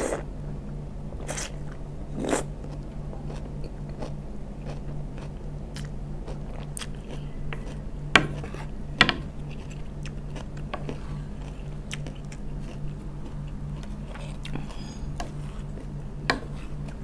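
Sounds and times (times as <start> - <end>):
low steady hum: 0.0 - 17.0
chewing and crunching vegetables: 1.2 - 17.0.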